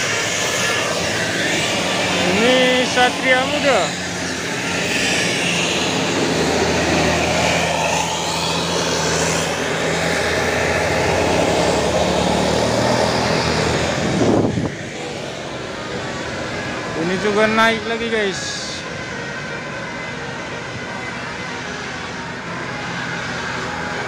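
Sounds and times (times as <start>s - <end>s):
bus engine running under load: 0.0s - 17.5s, 18.4s - 24.0s.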